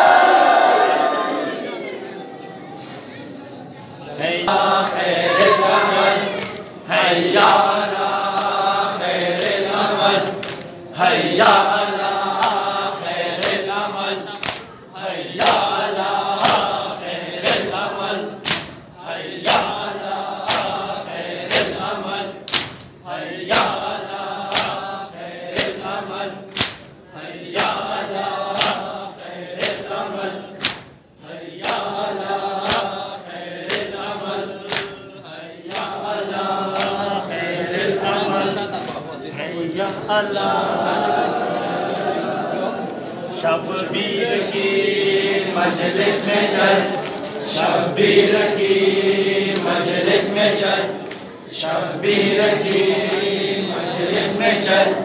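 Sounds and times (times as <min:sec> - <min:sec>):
crowd of men chanting: 0:00.0 - 0:02.2, 0:04.0 - 0:55.0.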